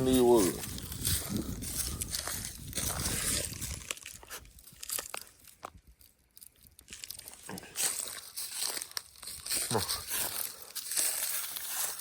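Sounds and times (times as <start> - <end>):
dry leaves crunching underfoot: 0.0 - 12.0.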